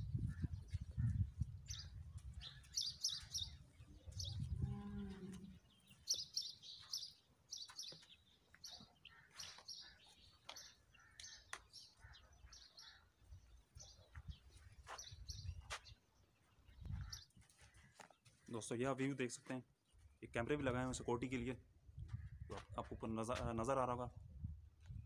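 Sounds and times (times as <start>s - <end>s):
small birds chirping: 0.0s - 23.1s.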